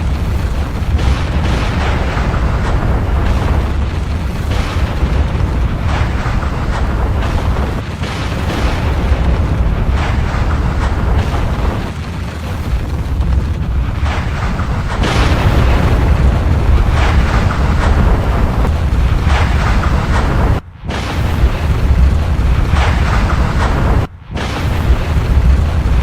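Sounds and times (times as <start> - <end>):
deep volcanic rumble: 0.0 - 26.0
volcanic blasting bursts: 0.0 - 26.0.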